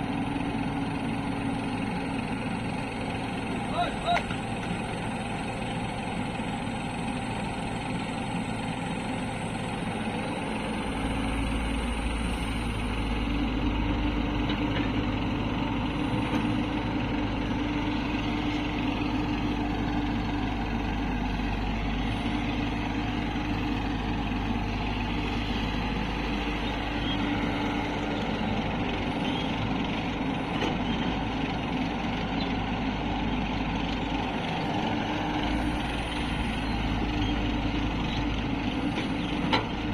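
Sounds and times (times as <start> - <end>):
heavy diesel engines rumbling: 0.0 - 39.9.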